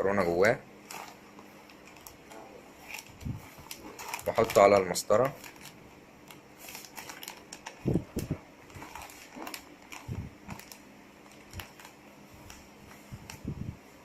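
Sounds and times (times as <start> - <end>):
plastic bag crinkling: 0.8 - 13.5.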